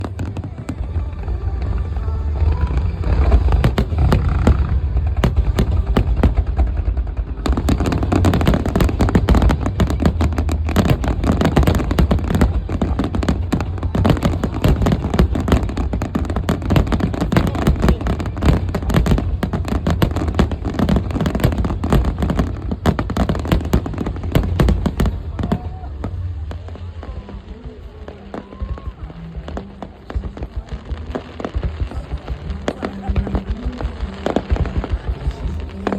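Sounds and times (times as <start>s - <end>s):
fireworks bursting: 0.0s - 35.9s
low rumble: 0.0s - 35.9s.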